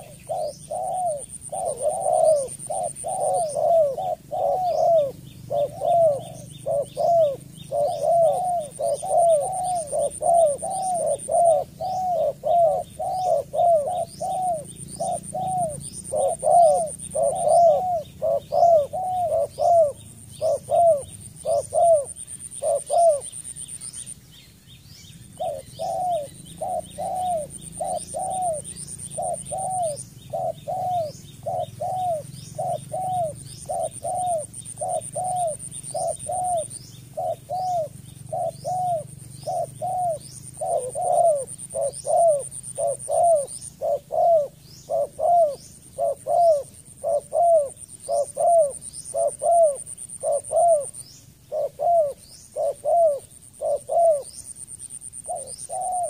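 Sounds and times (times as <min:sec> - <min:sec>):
dove cooing: 0:00.0 - 0:24.2, 0:25.2 - 0:56.0.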